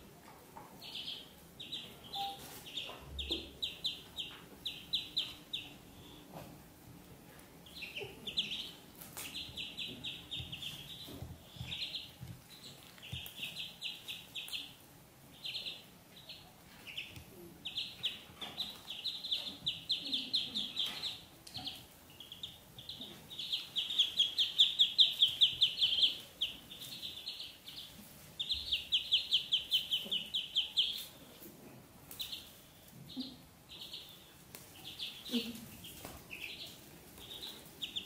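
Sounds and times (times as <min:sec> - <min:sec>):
ducklings peeping: 0:00.6 - 0:06.6, 0:07.4 - 0:38.0.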